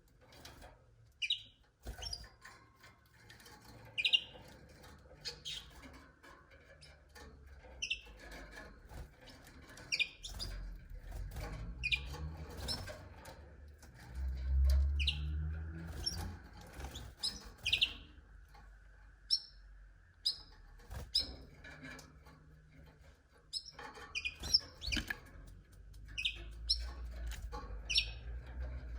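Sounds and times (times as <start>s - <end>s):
canaries chirping: 0.4s - 28.9s.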